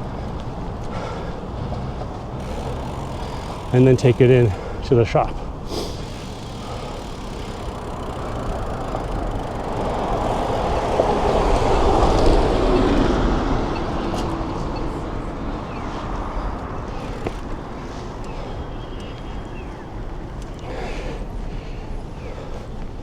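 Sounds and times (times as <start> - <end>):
vehicle passing: 0.0 - 19.1.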